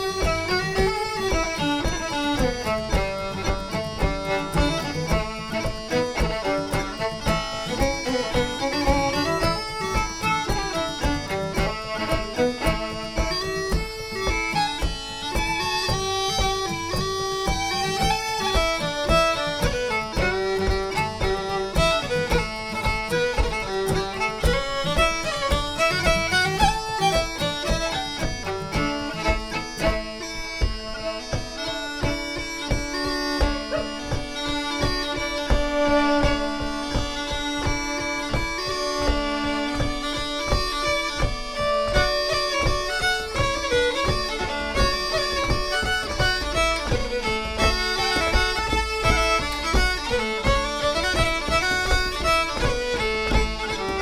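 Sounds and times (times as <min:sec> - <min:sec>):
fiddle: 0:00.0 - 0:54.0
frame drum beat: 0:00.0 - 0:54.0
piping wind melody: 0:00.0 - 0:54.0
strummed guitar: 0:00.0 - 0:54.0.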